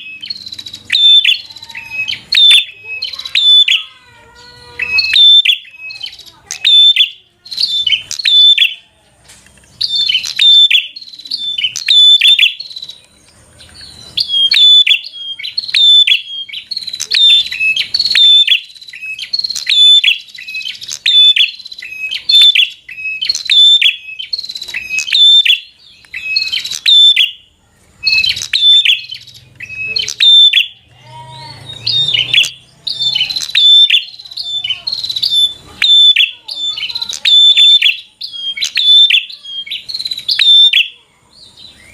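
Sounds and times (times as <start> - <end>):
bird singing sharp high chirps: 0.0 - 41.9.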